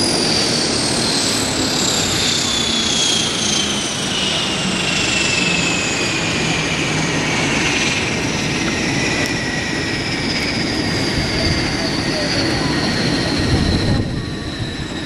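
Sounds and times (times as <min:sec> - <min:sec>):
turboprop engines running loudly: 0:00.0 - 0:15.0.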